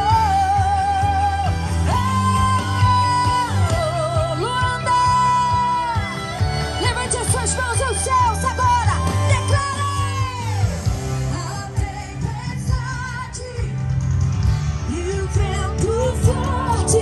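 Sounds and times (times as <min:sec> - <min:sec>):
woman singing: 0:00.0 - 0:10.7, 0:11.3 - 0:13.8, 0:14.9 - 0:17.0
live band playing: 0:00.0 - 0:17.0.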